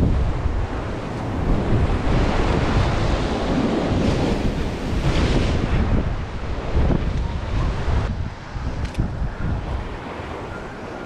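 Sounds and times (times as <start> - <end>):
ocean surf breaking on rocks: 0.0 - 11.0
wind buffeting microphone: 0.0 - 11.0.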